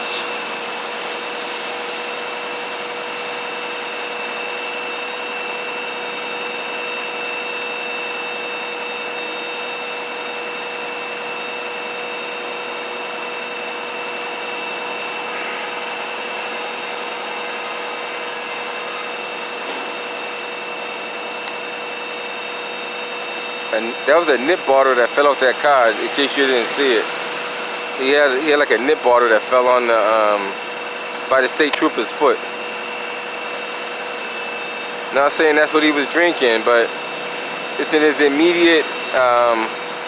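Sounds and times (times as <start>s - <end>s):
high whine: 0.0s - 40.0s
steady mechanical hum: 0.0s - 40.0s.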